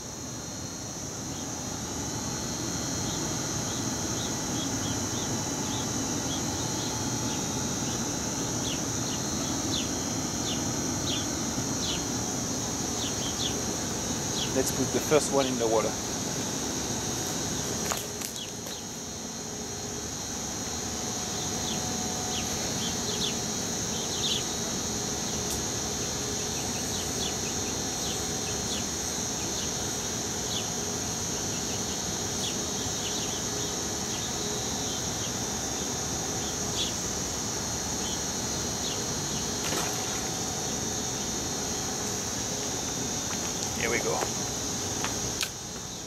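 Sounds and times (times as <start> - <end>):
high-pitched insect drone: 0.0 - 46.0.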